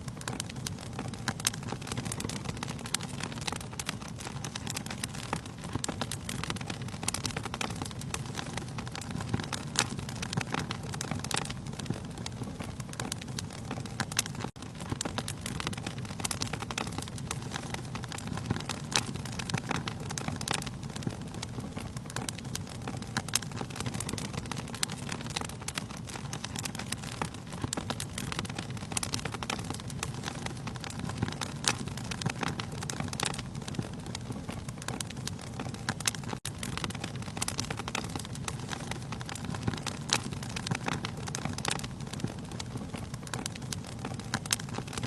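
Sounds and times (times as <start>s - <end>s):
fire flames rumbling: 0.0s - 45.0s
logs crackling and popping: 0.0s - 45.0s.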